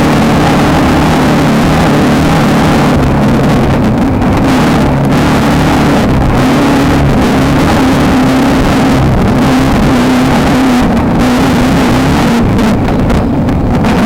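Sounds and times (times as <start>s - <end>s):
car rattling: 0.0s - 14.0s
race car engine running hard: 0.0s - 14.0s
wind rushing: 0.0s - 14.0s.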